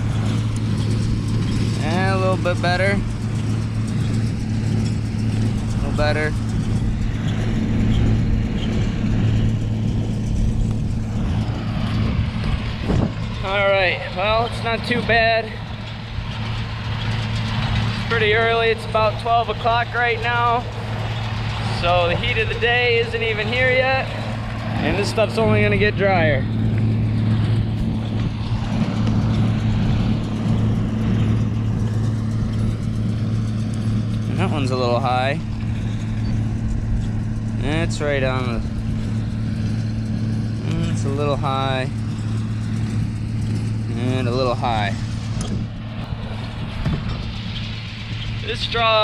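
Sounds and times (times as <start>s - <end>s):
tractor engine humming: 0.0s - 49.0s.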